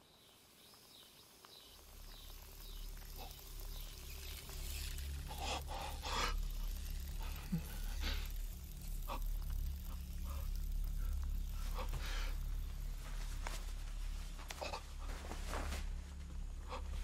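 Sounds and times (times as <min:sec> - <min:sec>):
low rumbling drone: 0:01.7 - 0:17.0.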